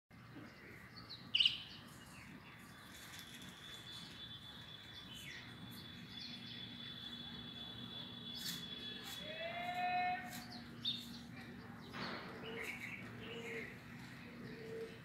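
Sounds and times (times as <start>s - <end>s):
low background noise: 0.1s - 15.0s
birds chirping: 0.2s - 9.0s, 10.3s - 15.0s.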